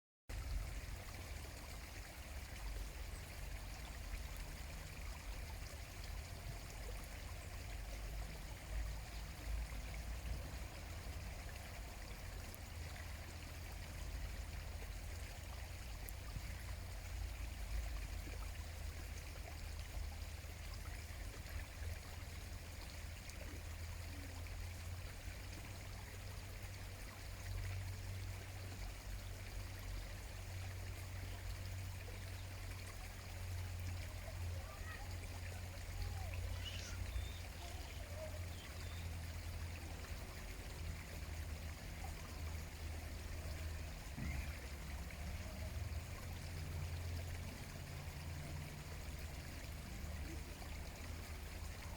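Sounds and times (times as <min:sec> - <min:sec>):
running water: 0:00.3 - 0:51.9.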